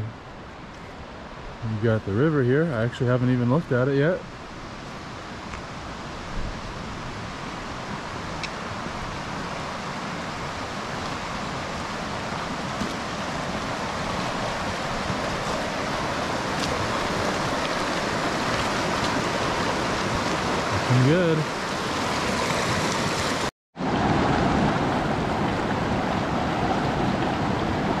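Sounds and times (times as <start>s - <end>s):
river water rushing: 4.0s - 28.0s.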